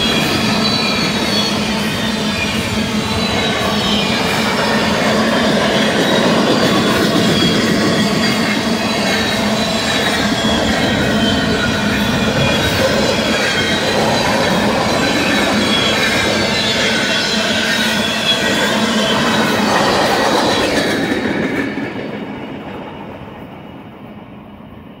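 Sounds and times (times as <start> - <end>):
wheels squealing: 0.0 - 21.6
train wheels rolling on rails: 0.0 - 25.0.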